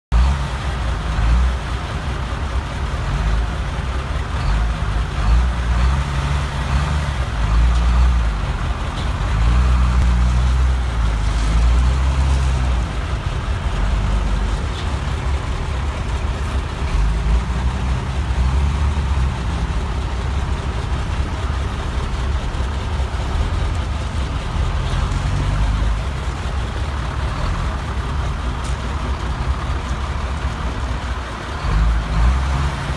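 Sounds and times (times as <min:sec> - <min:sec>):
diesel truck engine idling: 0:00.1 - 0:32.9.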